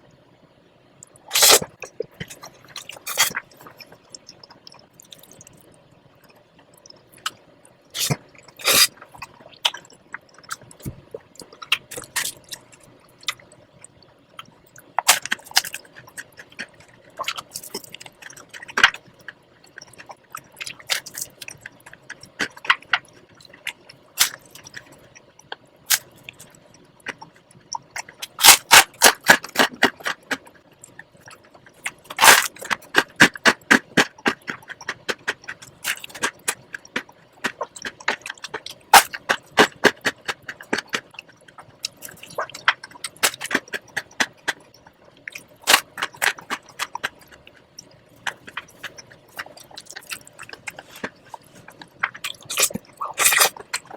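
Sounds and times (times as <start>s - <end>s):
chewing: 1.0s - 53.9s.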